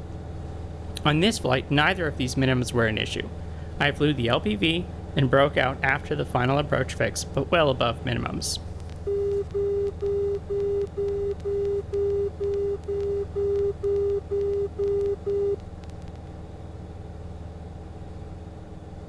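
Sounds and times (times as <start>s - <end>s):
aircraft engine droning: 0.0s - 19.0s.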